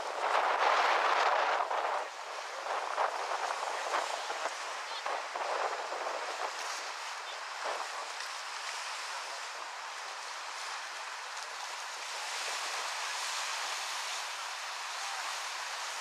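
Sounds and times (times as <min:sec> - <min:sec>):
waves washing onto shore: 0:00.0 - 0:16.0.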